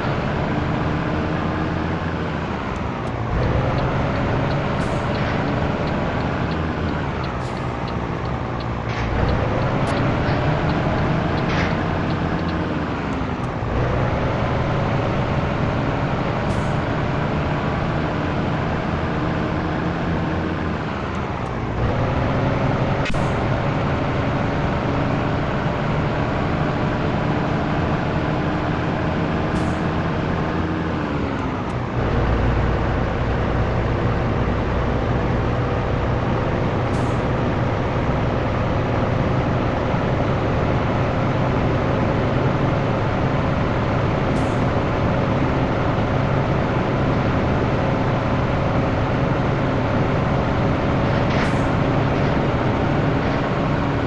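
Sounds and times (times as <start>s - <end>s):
truck diesel engine pulling under load: 0.0s - 54.0s.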